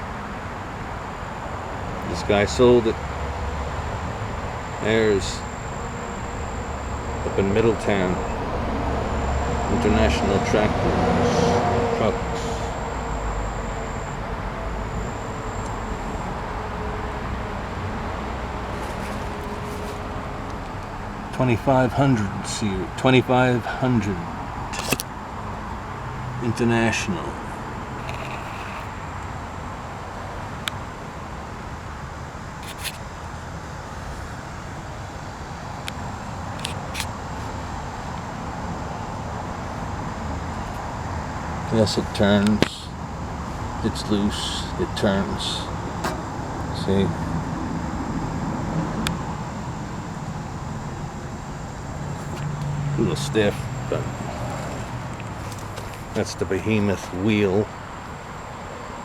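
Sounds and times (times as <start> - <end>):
faint high steady tone: 0.0 - 25.0, 26.4 - 59.0
outdoor rumble and hiss: 0.0 - 59.0.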